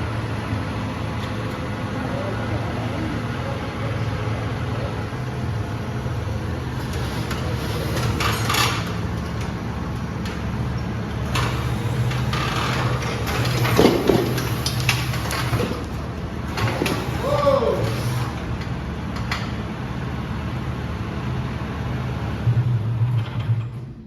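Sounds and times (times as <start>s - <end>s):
tractor engine idling: 0.0s - 21.6s.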